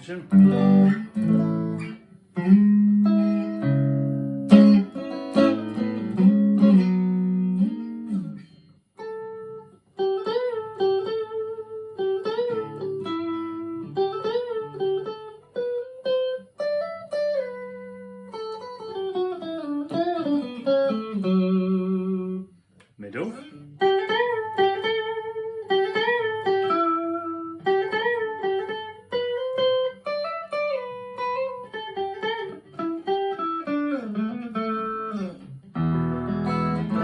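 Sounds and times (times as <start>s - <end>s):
clean electric guitar playing: 0.0s - 37.0s.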